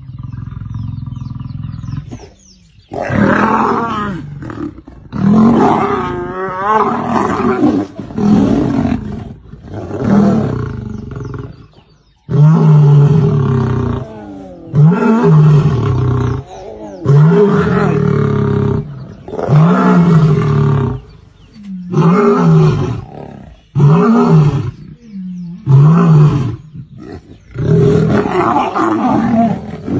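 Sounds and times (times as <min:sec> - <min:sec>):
lion growling: 0:00.0 - 0:29.9
lions snarling and roaring: 0:00.0 - 0:29.9.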